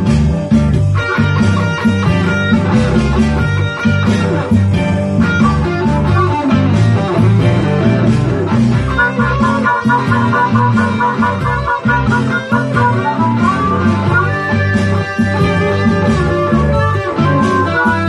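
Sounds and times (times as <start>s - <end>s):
electric guitar riff: 0.0s - 18.0s
harmonica playing: 1.0s - 18.0s.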